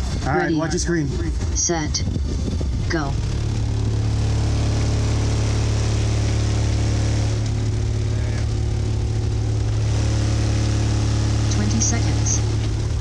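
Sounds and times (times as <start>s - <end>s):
loud deep subwoofer bass note: 0.0s - 13.0s.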